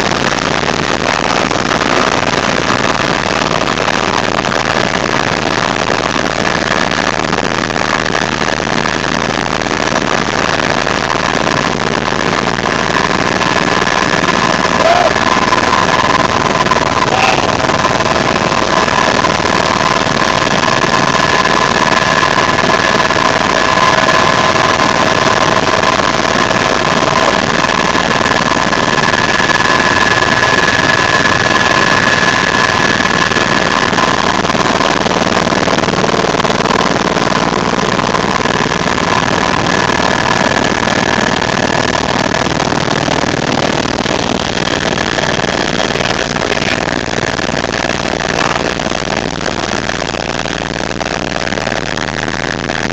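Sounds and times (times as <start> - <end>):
helicopter in flight: 0.0 - 52.9.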